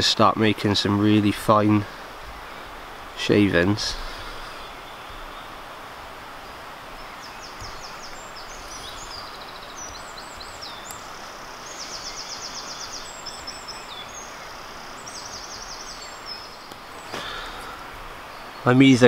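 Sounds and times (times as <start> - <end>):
steady background hiss: 0.0 - 19.0
songbird trilling and chirping: 2.3 - 19.0.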